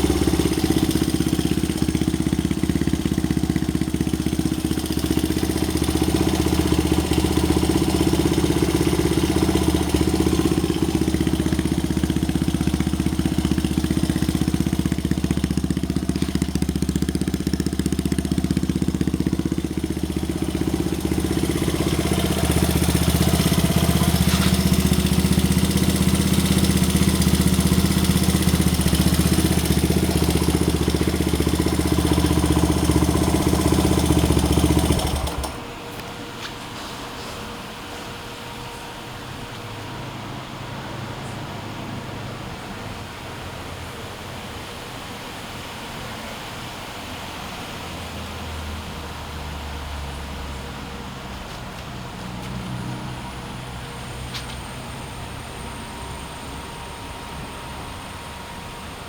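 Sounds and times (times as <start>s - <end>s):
motorbike engine idling: 0.0s - 44.3s, 48.9s - 59.0s.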